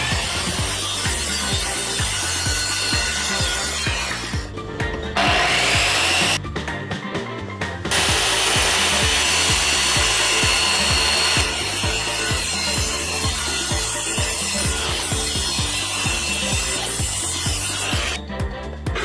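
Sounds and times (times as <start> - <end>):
circular saw cutting plywood: 0.0 - 6.4, 7.9 - 18.2
background music with steady beat: 0.0 - 19.0.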